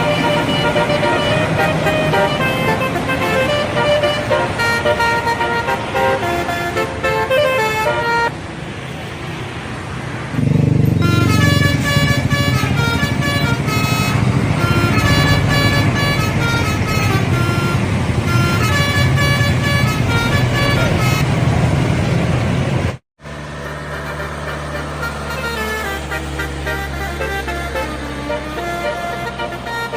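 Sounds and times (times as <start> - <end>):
musical air horn tune: 0.0 - 8.3, 10.9 - 21.4, 23.4 - 29.9
bus engine running: 0.0 - 29.9.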